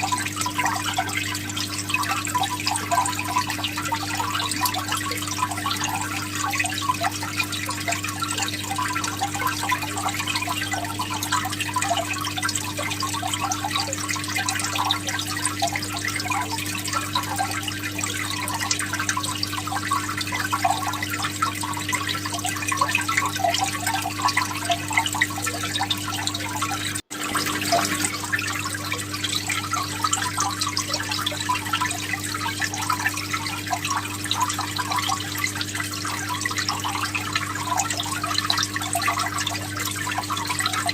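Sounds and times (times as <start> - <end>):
aquarium water bubbling: 0.0 - 40.9
pump low hum: 0.0 - 40.9.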